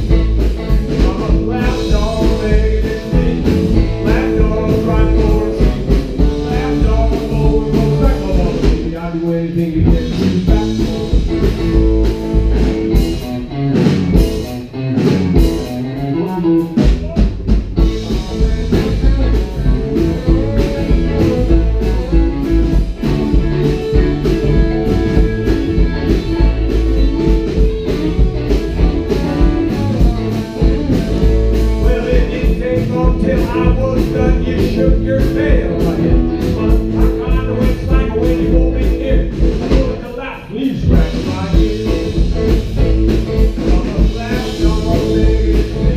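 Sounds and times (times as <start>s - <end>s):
rockabilly band playing: 0.0s - 45.9s.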